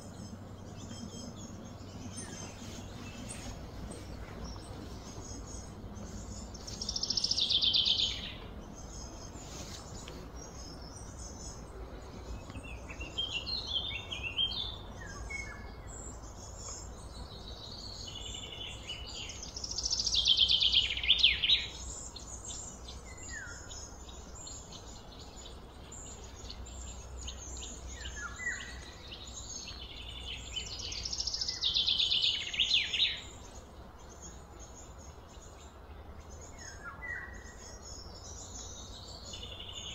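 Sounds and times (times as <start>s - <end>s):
bird chirps: 0.0s - 39.9s
birds singing trilled song: 0.0s - 39.9s
low background hum: 0.0s - 39.9s.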